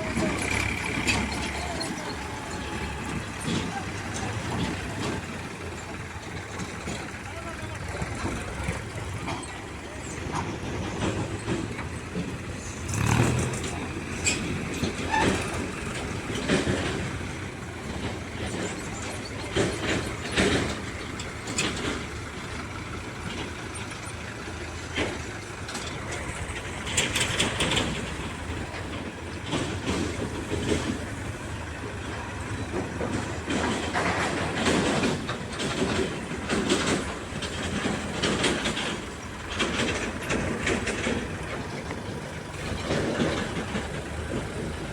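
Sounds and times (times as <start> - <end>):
diesel engine under load: 0.0 - 44.9
metallic clanks and knocks: 0.0 - 44.9.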